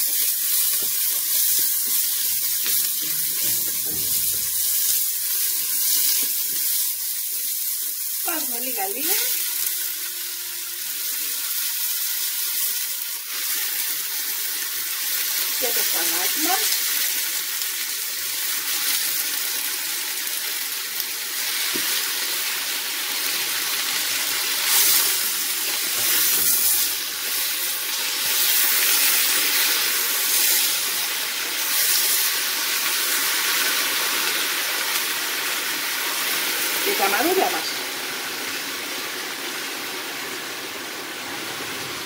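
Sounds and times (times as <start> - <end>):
spinach sizzling in oil: 0.0 - 42.0.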